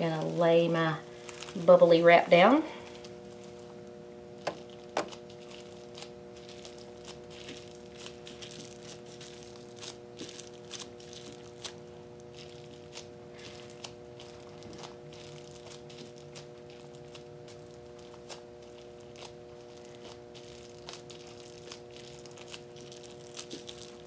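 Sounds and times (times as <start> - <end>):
bubble wrap crinkling: 0.0 - 24.0
steady background hum: 0.0 - 24.0.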